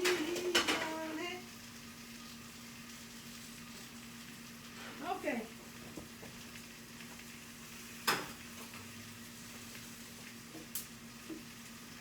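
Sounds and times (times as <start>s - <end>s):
food sizzling on a grill: 0.0s - 12.0s.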